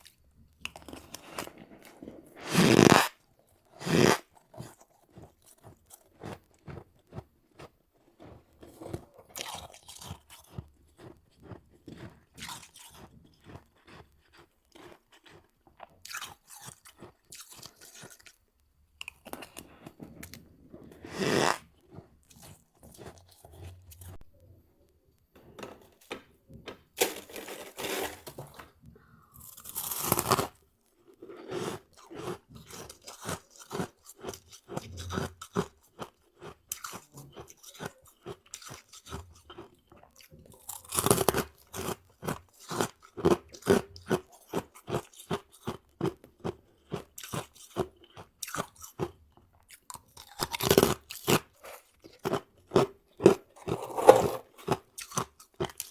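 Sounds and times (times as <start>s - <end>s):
crunchy ice chewing: 0.0s - 18.4s, 19.0s - 24.2s, 27.3s - 28.6s, 29.4s - 55.9s.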